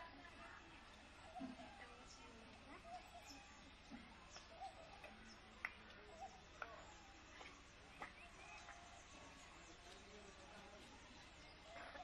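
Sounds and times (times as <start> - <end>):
faint village ambience: 0.0 - 12.0.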